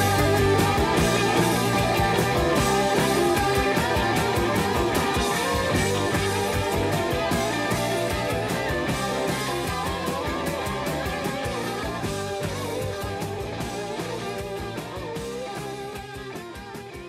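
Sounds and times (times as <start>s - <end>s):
drums: 0.0s - 17.0s
electric guitar lead notes: 0.0s - 17.0s
rock music: 0.0s - 17.0s.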